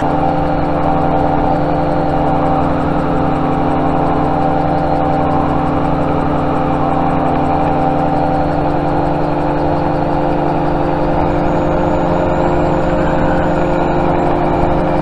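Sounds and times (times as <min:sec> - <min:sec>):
two-stroke aircraft engine running: 0:00.0 - 0:15.0.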